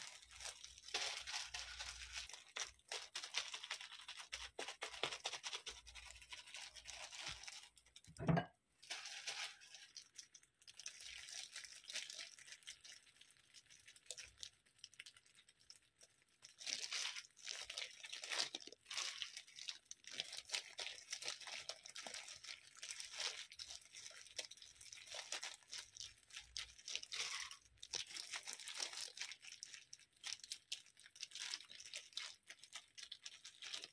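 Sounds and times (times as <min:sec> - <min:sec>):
soft squishing: 0:00.0 - 0:08.1, 0:08.9 - 0:33.9
plastic glove crinkling: 0:00.0 - 0:08.2, 0:08.8 - 0:33.9.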